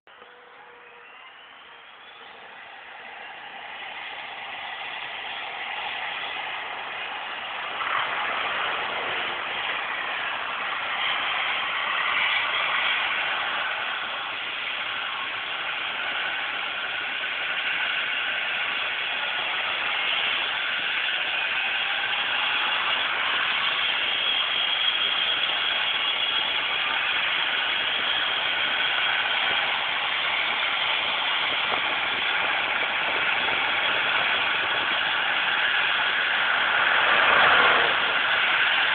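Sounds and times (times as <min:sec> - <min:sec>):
helicopter turbine and rotor: 0:00.1 - 0:38.9
high whining tones: 0:00.1 - 0:38.9.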